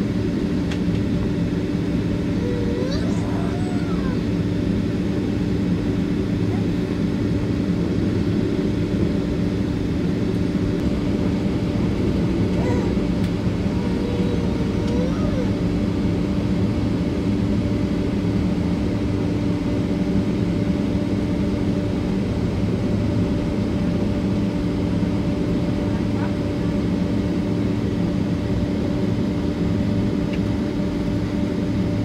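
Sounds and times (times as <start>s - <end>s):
jet engine drone in cabin: 0.0s - 32.0s.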